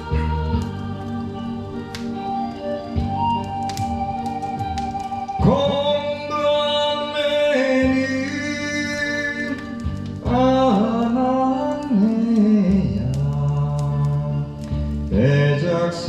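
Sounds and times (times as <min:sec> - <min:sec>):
instrumental accompaniment: 0:00.0 - 0:16.0
person singing long notes: 0:00.0 - 0:16.0.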